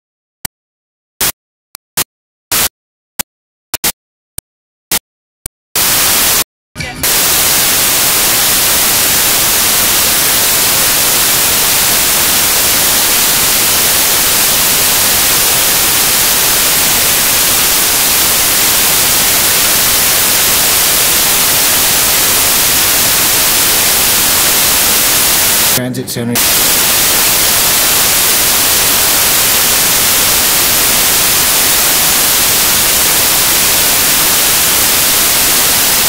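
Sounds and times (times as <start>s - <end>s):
white noise static hiss: 5.8s - 6.4s, 7.0s - 25.8s, 26.4s - 36.0s.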